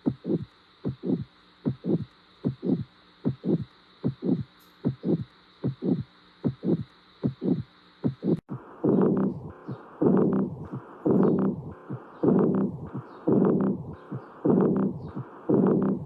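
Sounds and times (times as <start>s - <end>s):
faint steady hum: 0.0s - 16.0s
heartbeat lub-dub: 0.0s - 16.0s.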